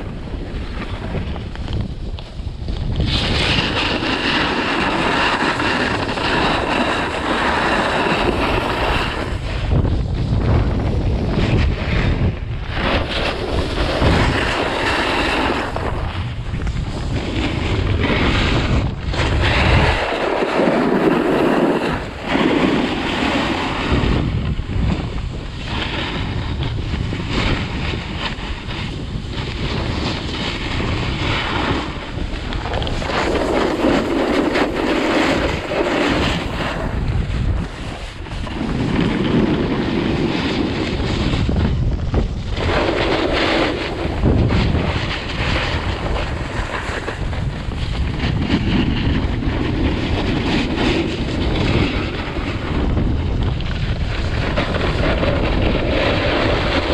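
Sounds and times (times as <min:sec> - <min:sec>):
skis scraping over snow: 0:00.0 - 0:56.9
wind buffeting microphone: 0:00.0 - 0:56.9.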